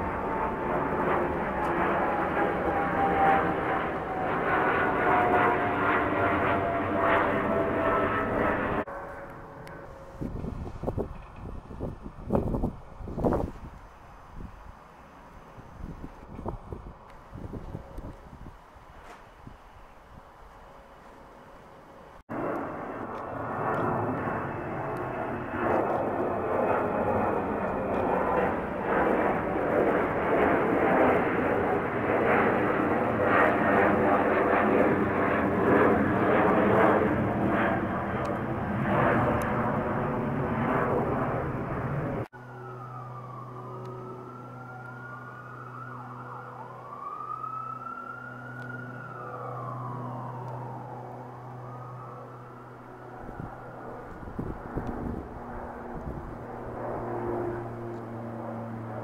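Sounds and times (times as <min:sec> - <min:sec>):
distant siren wailing: 0:00.0 - 0:13.4, 0:20.7 - 0:59.0
jet aircraft roar: 0:00.0 - 0:59.0.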